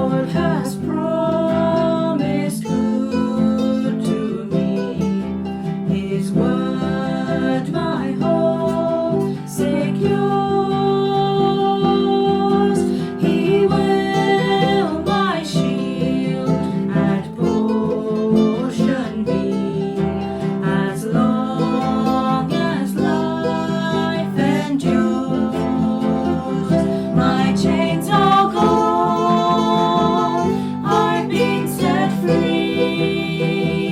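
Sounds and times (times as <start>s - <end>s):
person singing: 0.0s - 33.9s
strummed acoustic guitar: 0.0s - 33.9s.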